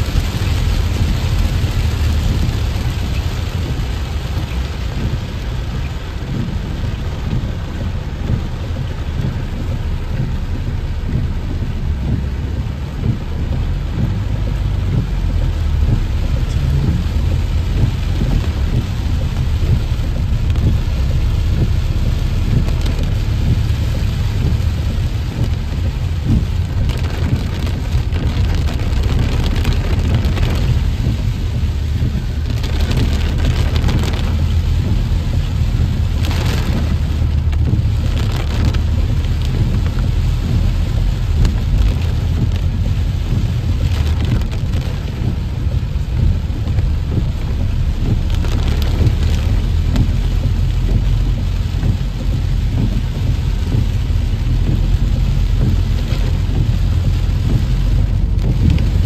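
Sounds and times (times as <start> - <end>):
heavy rain on car roof: 0.0 - 59.0.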